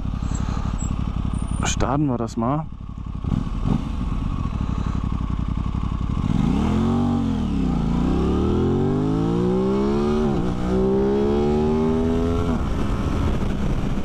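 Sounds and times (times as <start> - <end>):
motorcycle engine revving: 0.0 - 1.9, 2.7 - 14.0.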